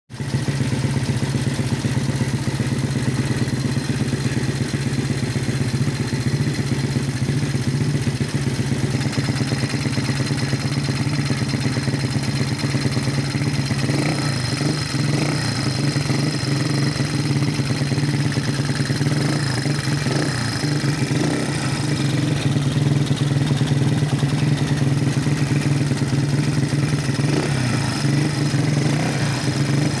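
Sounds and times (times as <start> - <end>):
motorcycle engine idling: 0.1 - 30.0.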